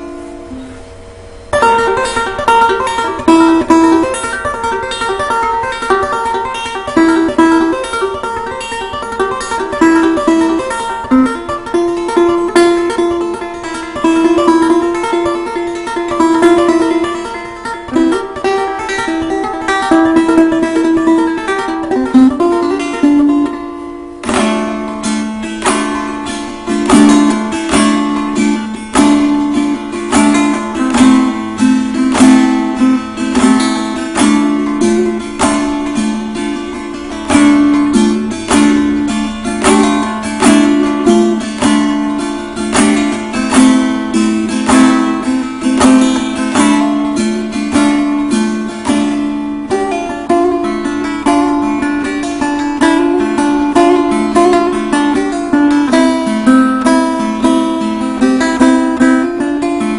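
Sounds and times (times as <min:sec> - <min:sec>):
plucked lute: 0:00.0 - 0:59.9.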